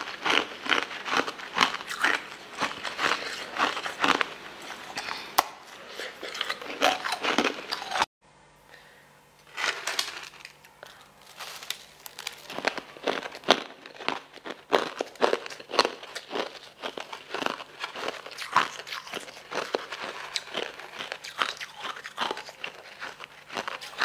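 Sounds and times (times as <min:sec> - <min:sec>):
ice crunching in mouth: 0:00.0 - 0:08.1, 0:09.5 - 0:24.0.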